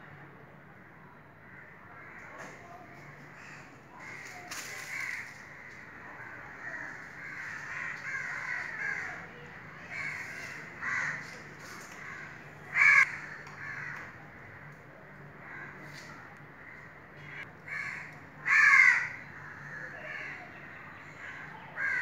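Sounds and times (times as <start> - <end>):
birds calling: 1.4 - 22.0.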